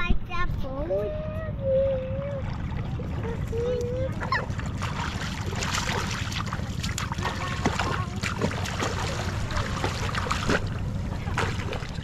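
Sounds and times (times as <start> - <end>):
seawater splashing at shore: 2.4 - 12.0.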